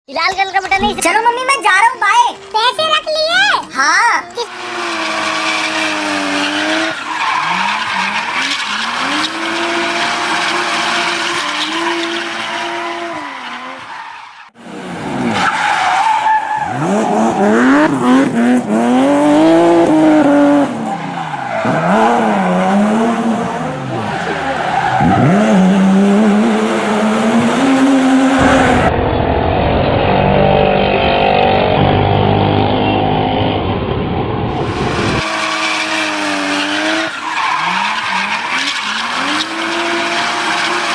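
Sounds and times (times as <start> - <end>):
tyres skidding: 2.1 - 40.9
vehicle engine revving: 4.5 - 13.8, 16.7 - 40.9.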